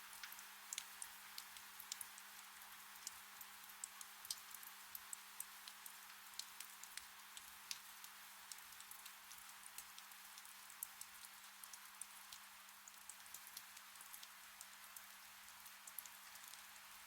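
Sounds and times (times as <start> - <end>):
gentle rain hiss: 0.0 - 17.0
raindrops ticking on leaves: 0.0 - 17.0.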